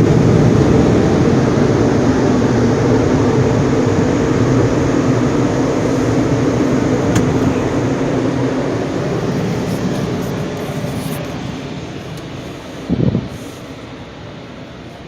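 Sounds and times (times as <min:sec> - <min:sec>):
car wash equipment rushing: 0:00.0 - 0:15.0.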